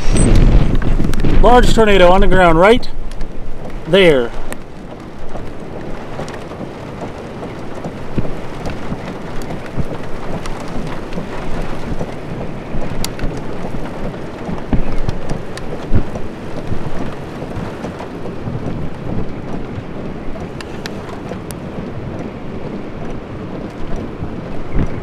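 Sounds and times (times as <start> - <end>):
low thumps: 0.0 - 25.0
rain spattering: 0.0 - 25.0.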